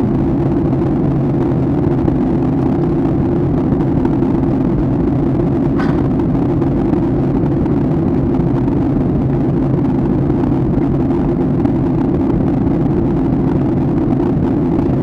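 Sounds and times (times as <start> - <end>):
jet airliner cabin drone: 0.0 - 15.0.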